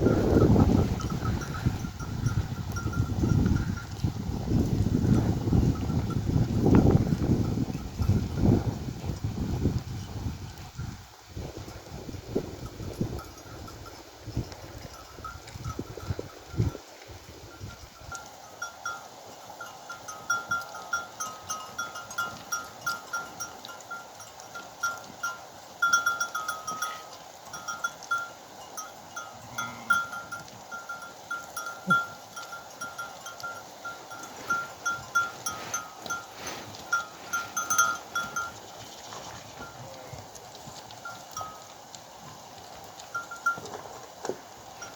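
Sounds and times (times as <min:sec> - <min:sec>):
animal bells clanking: 0:00.0 - 0:10.8, 0:11.6 - 0:16.9, 0:17.5 - 0:44.9.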